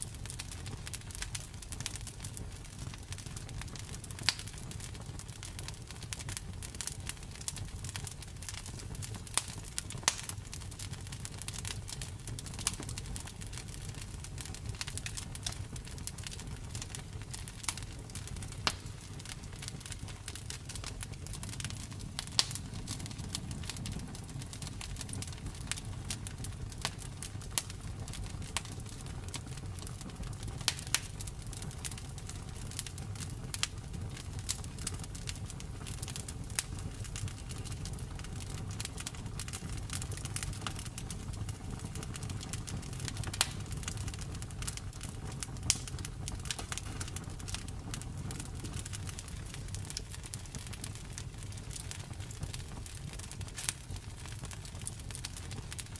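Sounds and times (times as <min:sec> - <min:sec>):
wood crackling and popping: 0:00.0 - 0:55.9
wood fire burning: 0:00.0 - 0:55.9.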